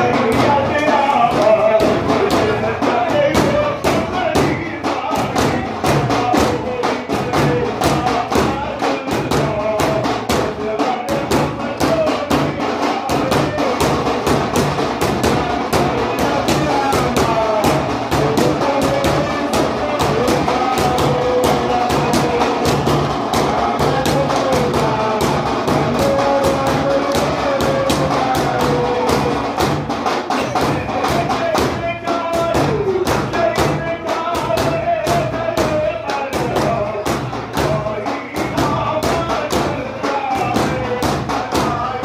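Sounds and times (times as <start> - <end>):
frame drums beaten fast: 0.0 - 42.0
voices singing devotional chant: 0.0 - 42.0.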